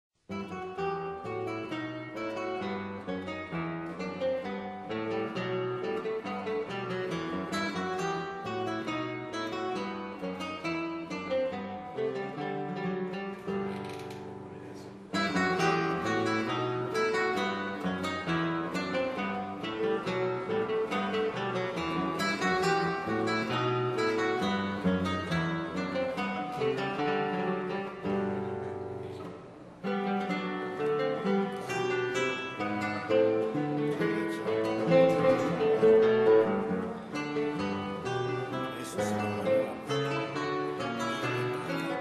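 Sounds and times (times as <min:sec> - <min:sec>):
acoustic guitar picking melody: 0:00.2 - 0:42.0.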